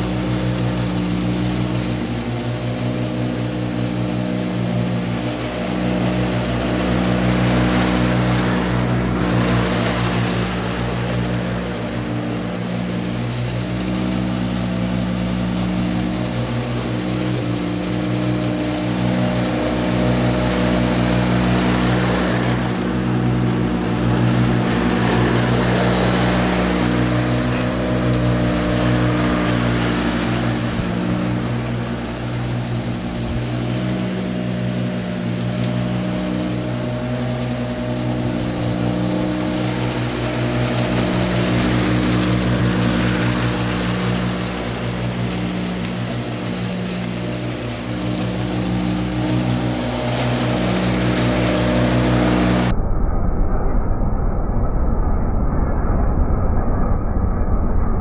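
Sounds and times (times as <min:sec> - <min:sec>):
mower cutting grass: 0:00.0 - 0:52.7
ride-on mower engine running: 0:00.0 - 0:52.7.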